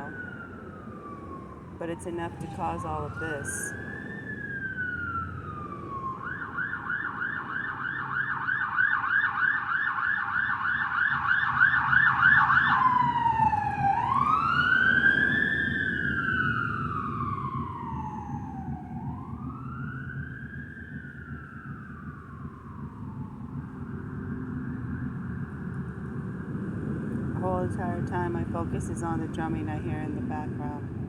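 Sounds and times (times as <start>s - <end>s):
police siren wailing and yelping: 0.0s - 25.0s
low traffic rumble: 0.0s - 31.0s.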